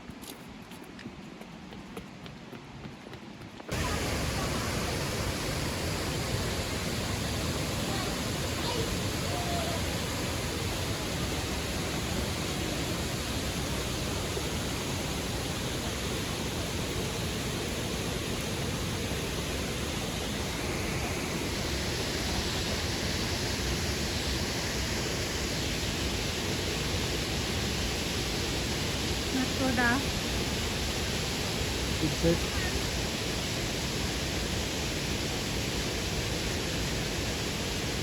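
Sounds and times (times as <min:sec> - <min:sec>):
waterfall rushing: 0:03.7 - 0:38.0.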